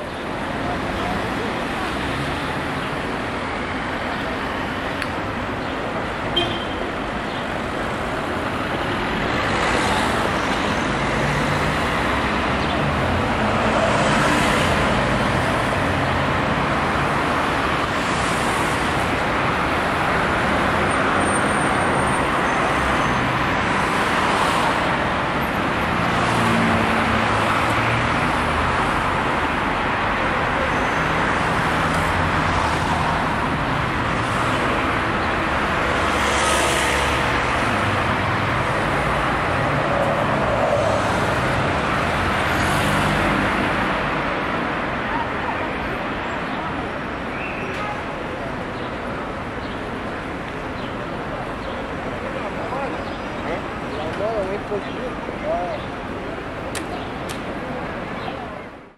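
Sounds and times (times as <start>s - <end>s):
city street traffic: 0.0s - 58.9s
vehicles passing close: 0.0s - 58.9s.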